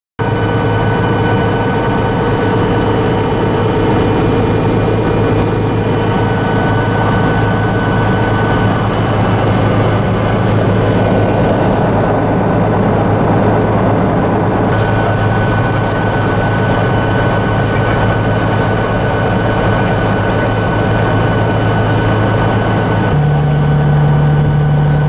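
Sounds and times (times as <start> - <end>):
propeller aircraft engine drone: 0.2 - 25.0.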